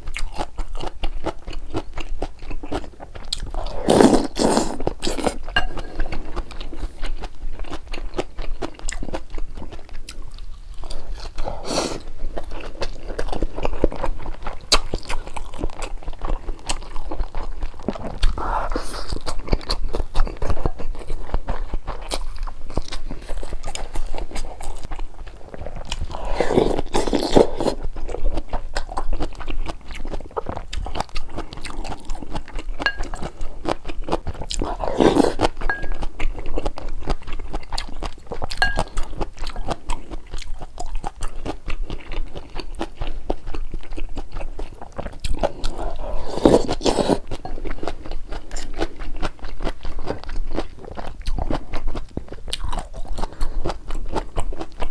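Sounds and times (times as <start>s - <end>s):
crunchy chewing and biting: 0.0s - 54.9s.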